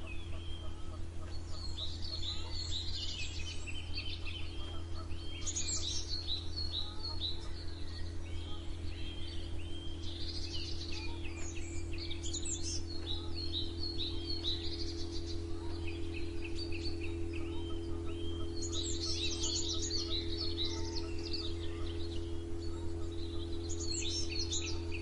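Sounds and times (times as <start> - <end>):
songbirds chirping and singing: 0.0 - 25.0
steady low hum: 0.0 - 25.0.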